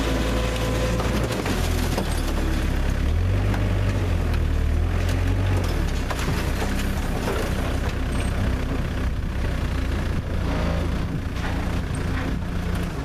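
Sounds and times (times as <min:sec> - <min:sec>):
forklift engine running under load: 0:00.0 - 0:13.0.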